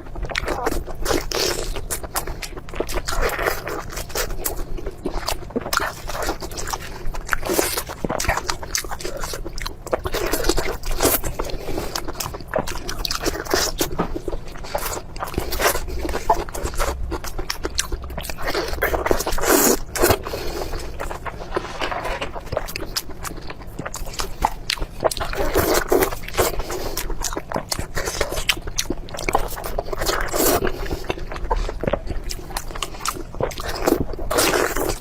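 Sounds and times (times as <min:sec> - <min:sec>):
person biting and chewing food: 0:00.2 - 0:35.0.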